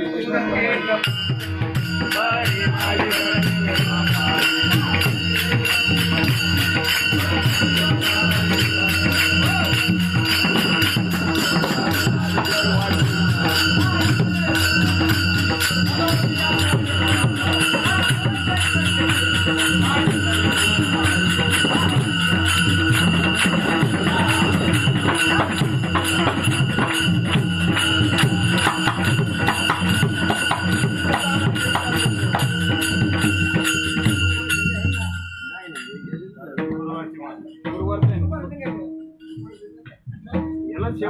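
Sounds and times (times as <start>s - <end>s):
barrel drum playing fast rhythm: 0.8s - 41.0s
small hand cymbals jingling: 1.0s - 41.0s.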